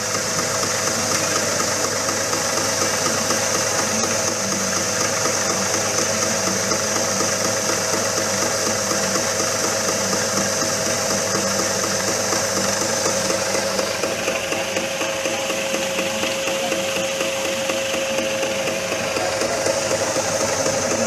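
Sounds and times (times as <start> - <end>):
fast mechanical pulsing: 0.0 - 21.0
machine motor whine: 0.0 - 21.0.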